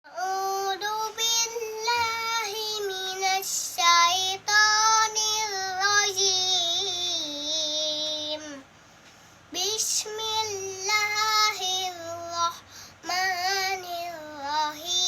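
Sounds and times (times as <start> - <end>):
child chanting melodically: 0.1 - 8.7, 9.5 - 15.0.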